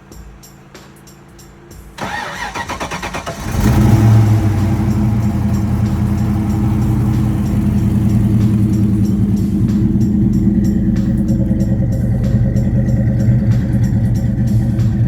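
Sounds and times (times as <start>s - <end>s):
car engine idling loudly: 2.0s - 15.0s
starter cranking: 2.0s - 15.0s.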